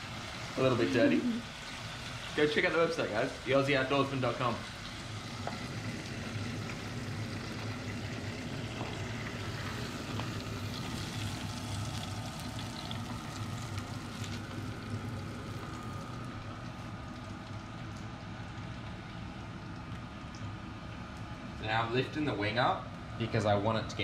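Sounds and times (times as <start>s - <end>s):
hot oil crackling and sizzling: 0.0s - 24.0s
low kitchen hum: 0.0s - 24.0s.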